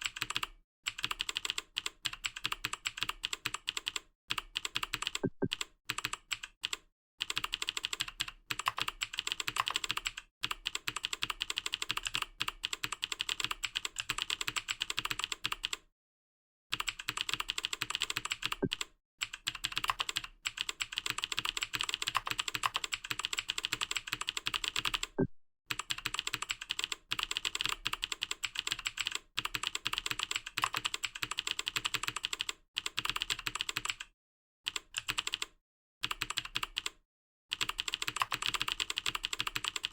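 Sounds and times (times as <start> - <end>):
fast keyboard typing: 0.0 - 15.8, 16.7 - 34.1, 34.7 - 39.9.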